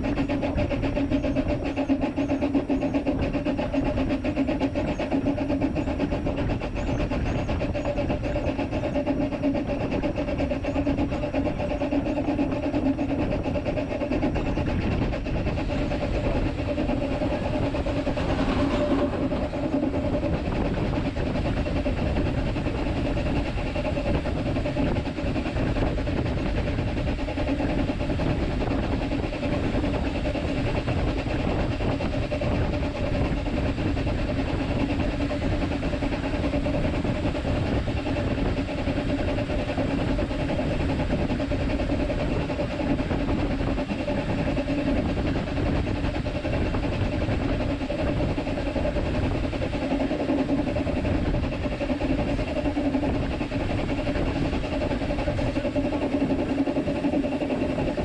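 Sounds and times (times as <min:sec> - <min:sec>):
steam locomotive cab noise: 0:00.0 - 0:58.0.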